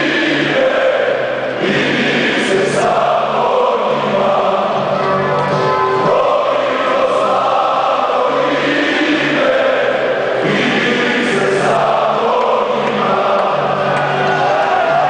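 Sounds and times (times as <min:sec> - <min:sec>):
arena crowd singing a chant: 0:00.0 - 0:15.0.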